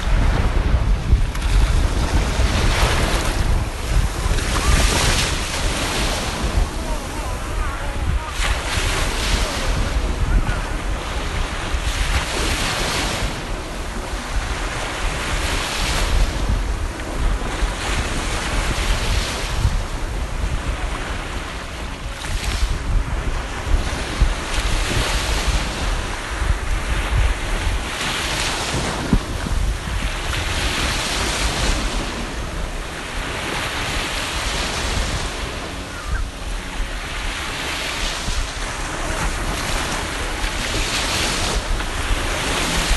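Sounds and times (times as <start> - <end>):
sea waves breaking: 0.0 - 42.9
wind buffeting microphone: 0.0 - 42.9.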